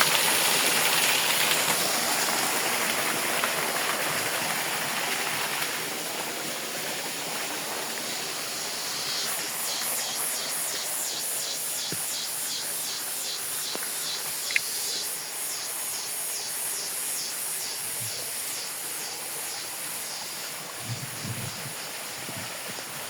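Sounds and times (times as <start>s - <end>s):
insects calling in pulses: 0.0s - 23.0s
outdoor background hiss: 0.0s - 23.0s.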